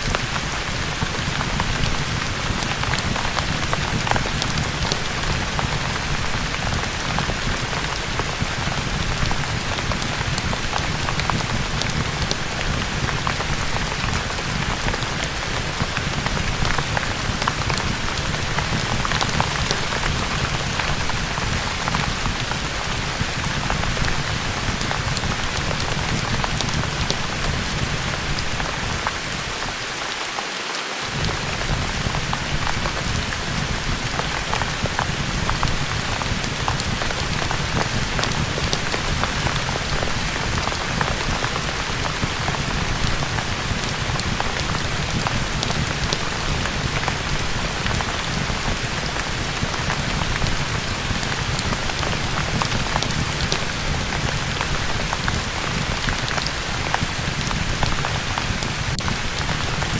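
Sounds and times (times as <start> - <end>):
small sharp raindrop ticks: 0.0 - 59.9
steady rain hiss: 0.0 - 59.9.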